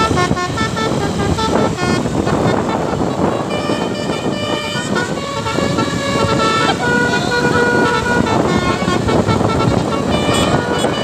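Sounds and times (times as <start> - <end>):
multi-tone air horn tune: 0.0 - 11.0
rushing traffic noise: 0.0 - 11.0.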